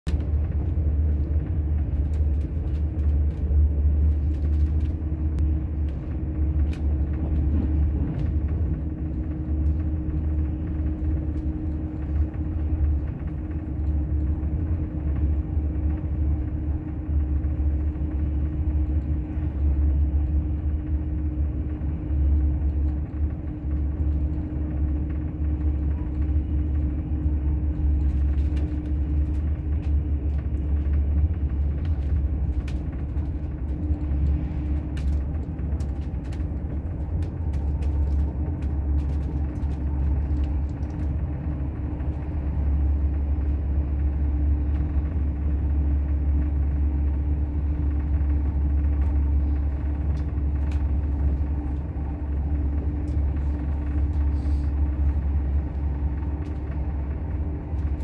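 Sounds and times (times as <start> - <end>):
train cabin deep rumble: 0.0 - 58.0
constant hum: 0.1 - 58.0.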